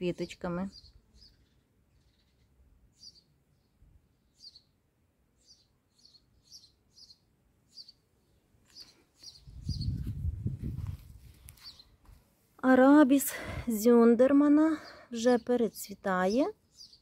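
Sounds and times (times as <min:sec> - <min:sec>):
small bird chirping: 0:00.1 - 0:04.8, 0:05.4 - 0:12.0, 0:14.5 - 0:17.0.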